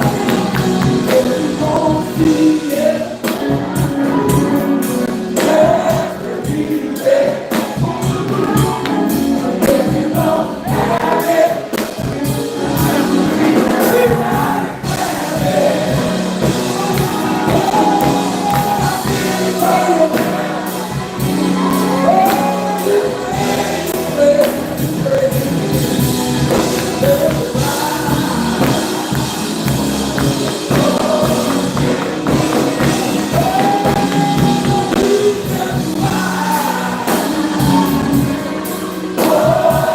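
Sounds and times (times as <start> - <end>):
bass: 0.0 - 39.9
choir singing: 0.0 - 39.9
person singing gospel: 0.0 - 39.9.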